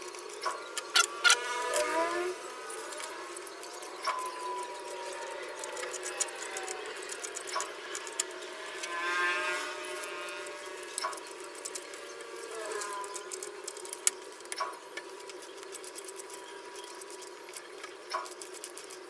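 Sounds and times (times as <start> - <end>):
small crackles and clicks: 0.0 - 19.0.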